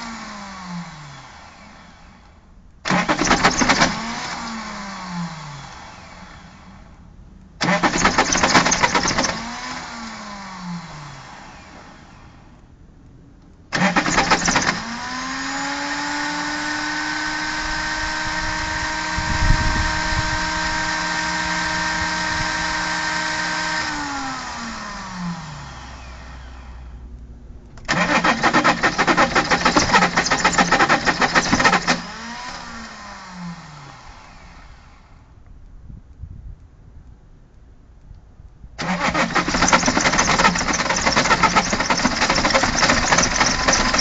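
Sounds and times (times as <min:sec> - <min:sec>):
diesel engine cranking on starter: 0:00.0 - 0:12.6, 0:13.7 - 0:35.1, 0:38.8 - 0:44.0.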